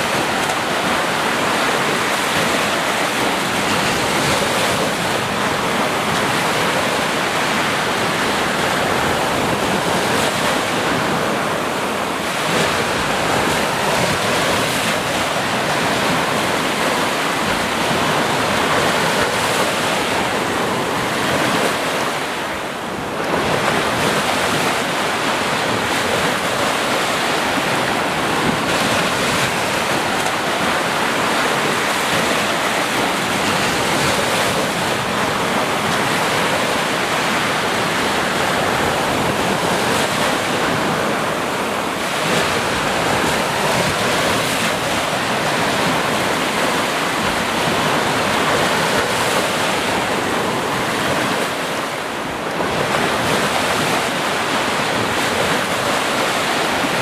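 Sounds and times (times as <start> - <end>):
ocean surf: 0.0 - 57.0.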